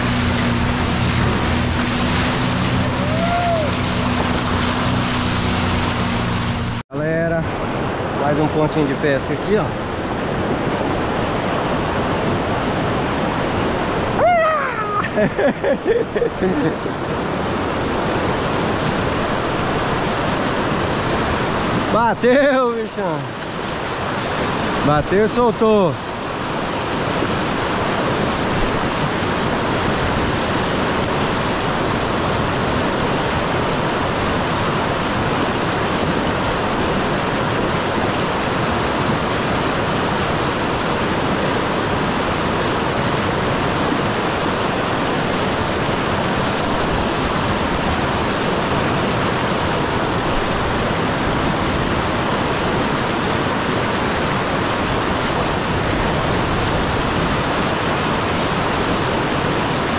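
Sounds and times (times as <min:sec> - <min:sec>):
river rapids rushing over rocks: 0:00.0 - 0:09.2, 0:09.8 - 0:59.9.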